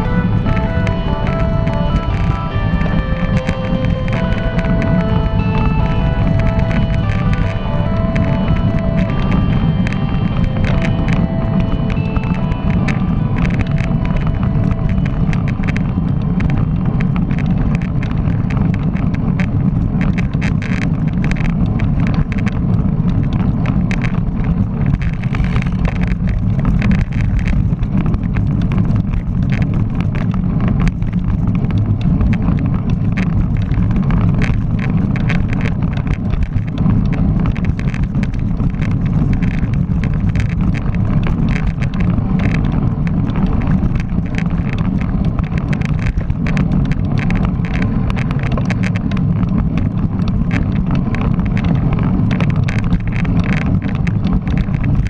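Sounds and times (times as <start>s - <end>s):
bike clicks and rattles: 0.0s - 55.0s
road and tyre noise: 0.0s - 55.0s
wind buffeting microphone: 0.0s - 55.0s.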